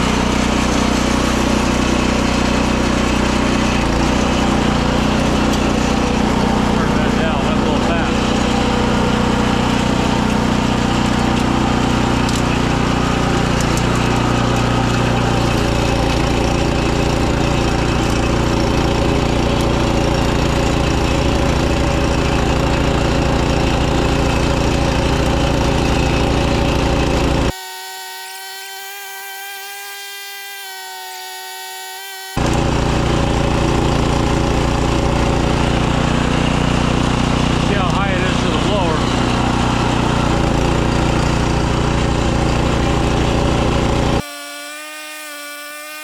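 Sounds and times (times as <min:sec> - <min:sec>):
snowblower engine running: 0:00.0 - 0:46.0.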